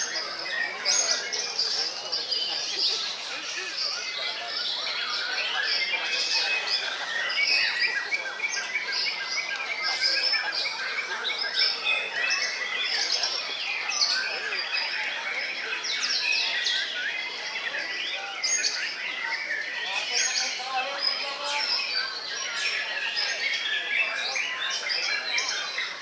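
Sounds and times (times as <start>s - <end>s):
birds singing: 0.0s - 26.0s.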